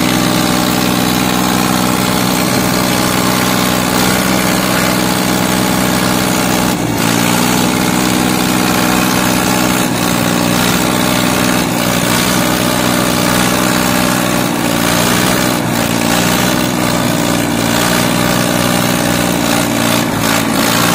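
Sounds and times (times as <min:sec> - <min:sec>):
diesel tractor engines running: 0:00.0 - 0:20.9.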